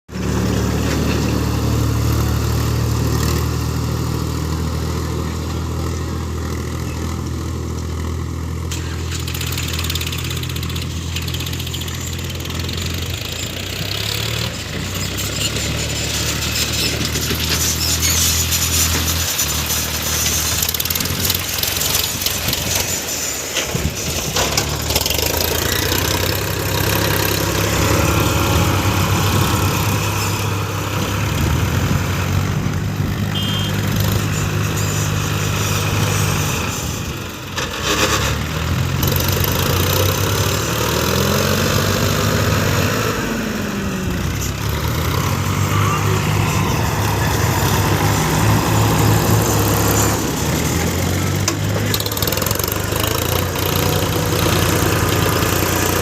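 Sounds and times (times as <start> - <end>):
heavy vehicle engine revving: 0.1 - 56.0.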